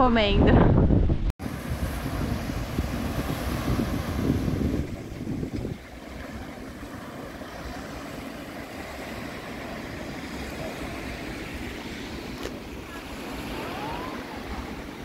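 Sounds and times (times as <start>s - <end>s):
wind buffeting microphone: 0.0s - 15.0s
small waves breaking on beach: 1.4s - 15.0s.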